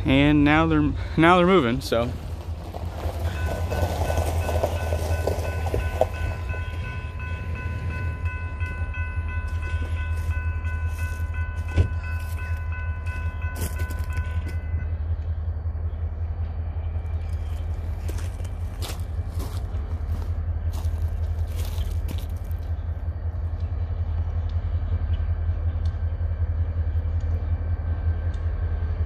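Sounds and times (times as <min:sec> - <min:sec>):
crossing warning bell ringing: 0:00.0 - 0:28.9
train rumbling: 0:00.0 - 0:29.0.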